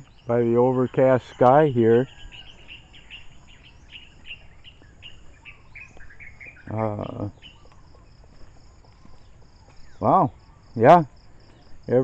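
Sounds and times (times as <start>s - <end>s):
birds chirping: 0.0s - 12.0s
high drone of insects: 0.0s - 12.0s.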